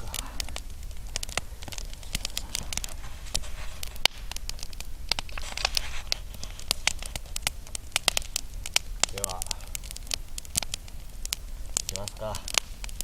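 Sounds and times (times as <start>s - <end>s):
firewood crackling: 0.0s - 13.0s
sharp snaps and pops: 0.0s - 13.0s.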